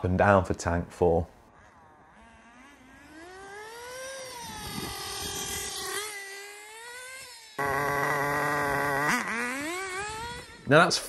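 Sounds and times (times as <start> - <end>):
small nitro engine revving: 1.5 - 11.0.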